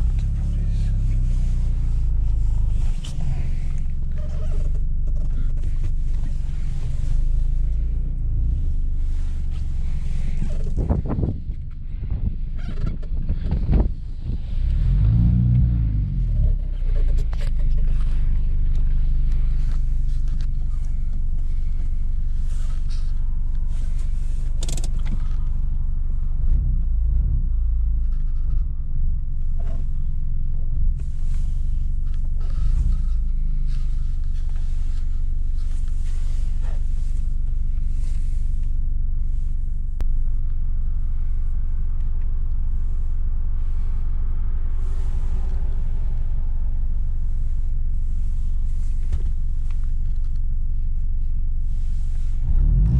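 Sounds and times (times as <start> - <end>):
car exhaust drone: 0.0 - 52.9.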